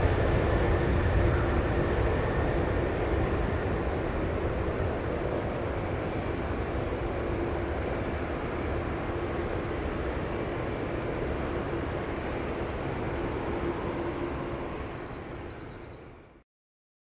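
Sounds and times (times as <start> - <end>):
jet engines rumbling drone: 0.0 - 16.4.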